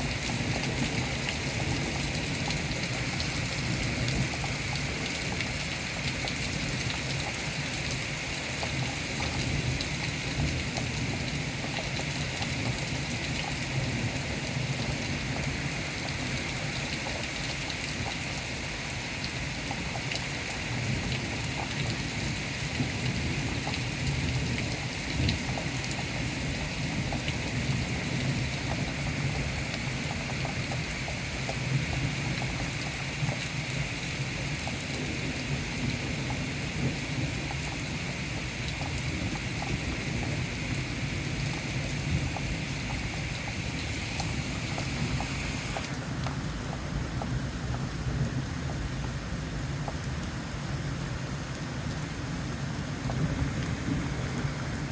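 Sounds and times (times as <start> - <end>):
raindrops ticking on surface: 0.0 - 54.9
steady rain hiss: 0.0 - 54.9.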